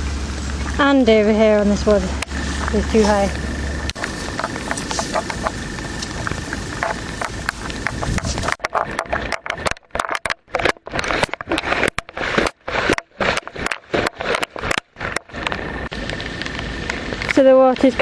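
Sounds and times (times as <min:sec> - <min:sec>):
scraping and crackling: 0:00.4 - 0:18.0.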